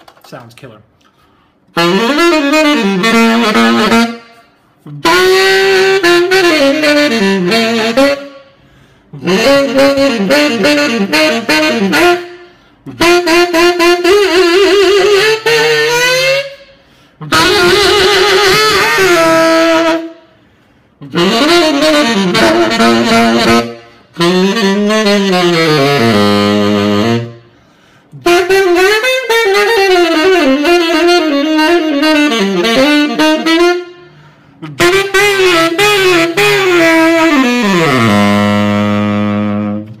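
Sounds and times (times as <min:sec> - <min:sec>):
tenor saxophone jazz phrases: 0:00.4 - 0:40.0.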